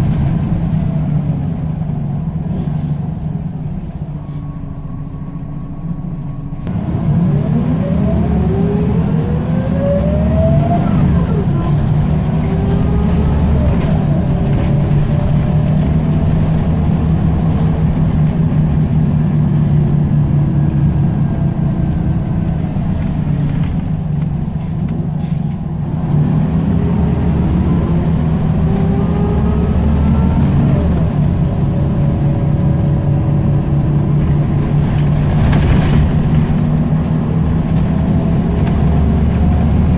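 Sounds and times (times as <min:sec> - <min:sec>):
bus engine whine accelerating: 0:00.0 - 0:39.9.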